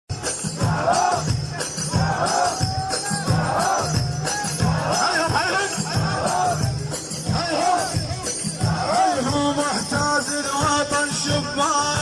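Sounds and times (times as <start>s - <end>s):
driving low beat: 0.1s - 12.0s.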